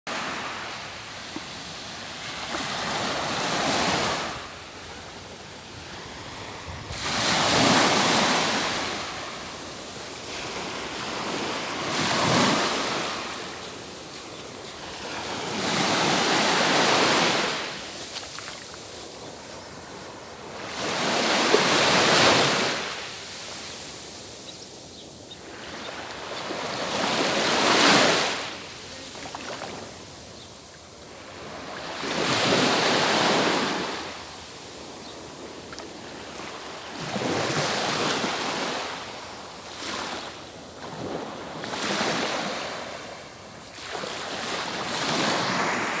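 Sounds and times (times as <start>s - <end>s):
sea waves breaking on shore: 0.1s - 30.4s, 31.0s - 46.0s.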